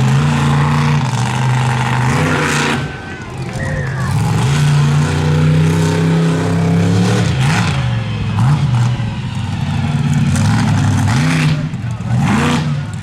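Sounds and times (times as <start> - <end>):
truck engine revving high: 0.0 - 13.0.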